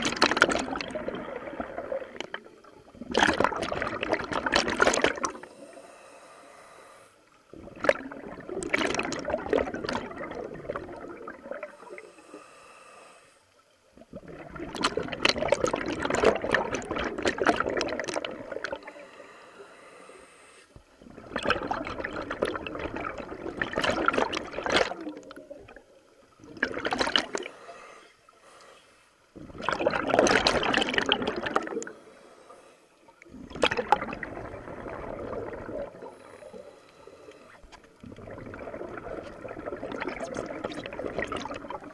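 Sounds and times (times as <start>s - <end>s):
underwater regulator bubbles: 0.0s - 5.8s, 7.4s - 12.2s, 13.9s - 19.1s, 20.8s - 27.9s, 29.3s - 32.2s, 33.1s - 41.9s.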